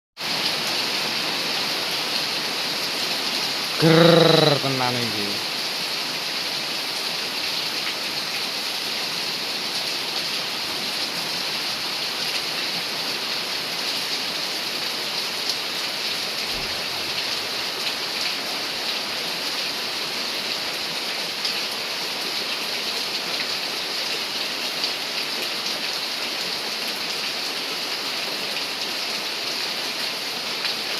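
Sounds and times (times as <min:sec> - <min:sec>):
rain-like hiss: 0:00.2 - 0:30.9.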